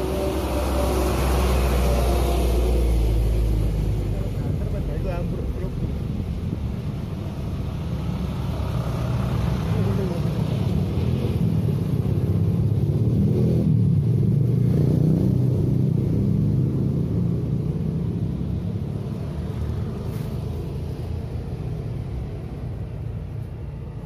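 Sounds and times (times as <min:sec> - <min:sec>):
low engine rumble passing by: 0:00.0 - 0:24.0.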